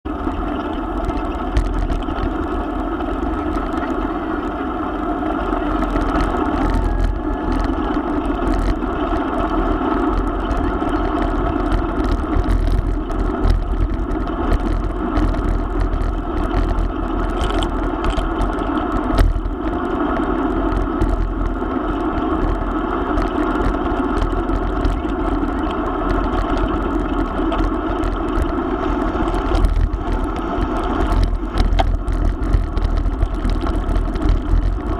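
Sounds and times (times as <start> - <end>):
engine drone: 0.0 - 34.9.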